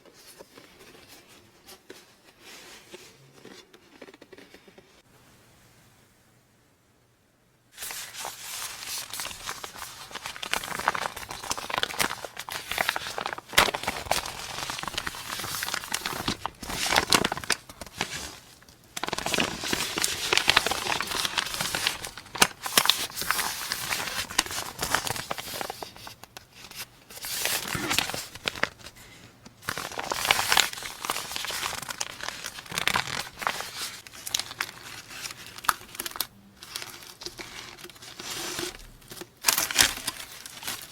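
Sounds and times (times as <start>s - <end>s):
packaging crinkling: 7.8s - 40.9s.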